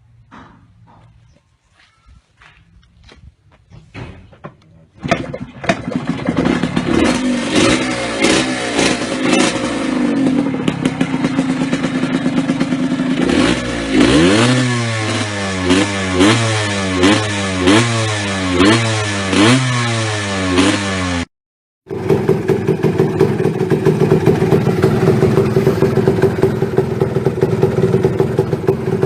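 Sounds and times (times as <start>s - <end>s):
two-stroke engine revving: 5.0s - 21.3s, 21.9s - 29.0s.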